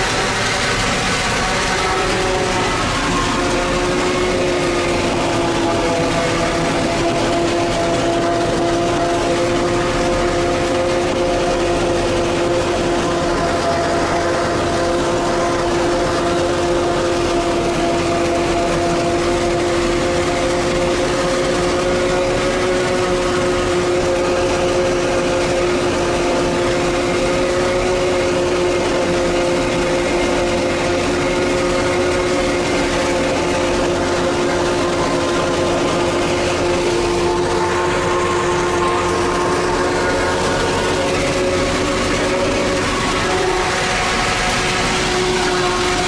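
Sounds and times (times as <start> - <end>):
forage harvester machine drone: 0.0 - 46.0.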